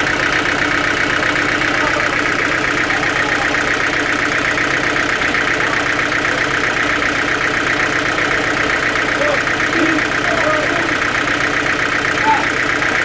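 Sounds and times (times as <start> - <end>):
sawmill machinery drone: 0.0 - 13.0.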